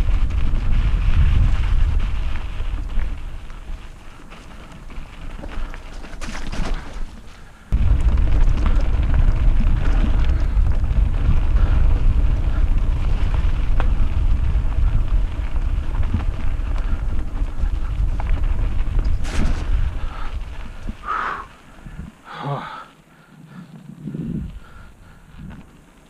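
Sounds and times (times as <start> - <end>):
bike clicks and rattles: 0.0 - 22.2, 23.0 - 26.0
wind rumble on microphone: 0.0 - 22.3, 23.2 - 26.0.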